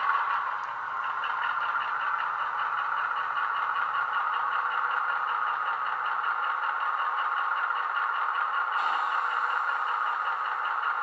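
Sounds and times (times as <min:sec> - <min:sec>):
model diesel engine sound: 0:00.0 - 0:11.0.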